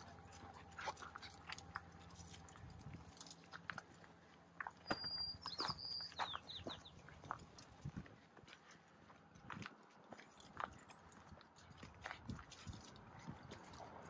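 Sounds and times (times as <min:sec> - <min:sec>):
footsteps on gravel trail: 0:00.0 - 0:14.0.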